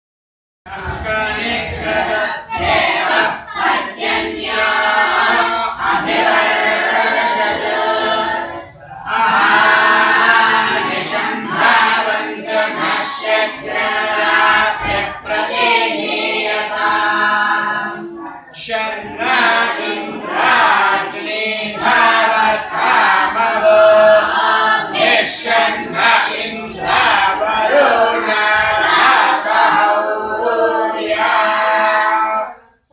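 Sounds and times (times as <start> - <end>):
boys chanting in unison: 0.7 - 32.6.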